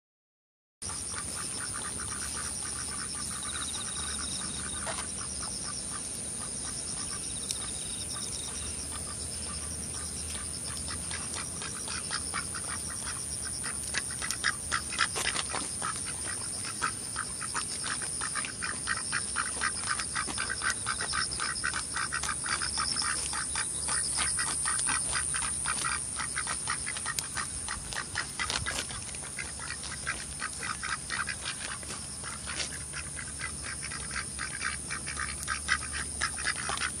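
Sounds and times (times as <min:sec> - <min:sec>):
ducks quacking: 0:00.8 - 0:37.0.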